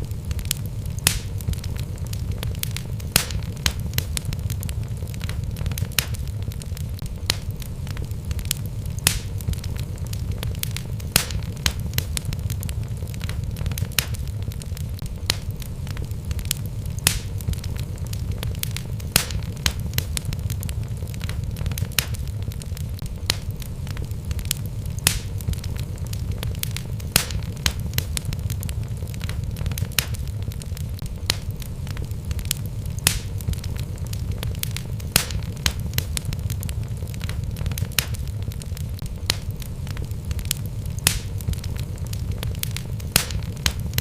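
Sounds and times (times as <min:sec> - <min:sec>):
burning logs crackling and popping: 0:00.0 - 0:44.0
low rumble of flames: 0:00.0 - 0:44.0.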